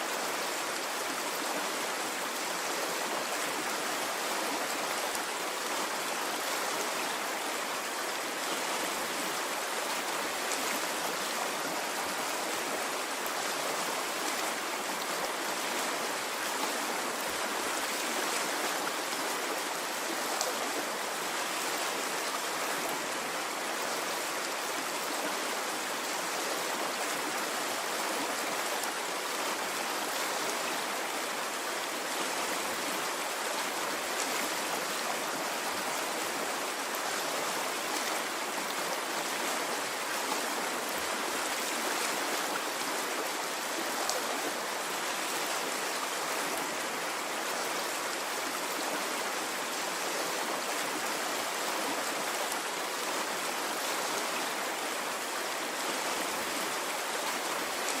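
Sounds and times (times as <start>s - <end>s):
stream of running water: 0.0s - 58.0s.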